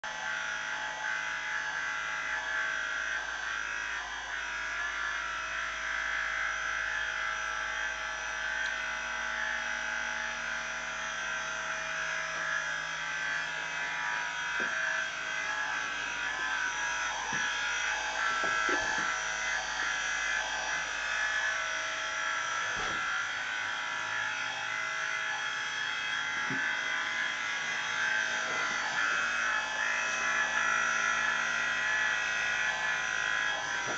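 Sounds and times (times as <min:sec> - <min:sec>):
small electric motor whining: 0:00.1 - 0:33.9.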